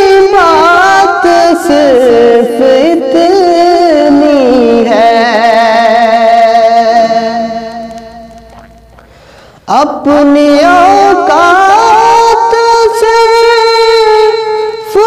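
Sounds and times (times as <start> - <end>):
man singing wordless melody: 0.0 - 9.0, 9.6 - 15.0.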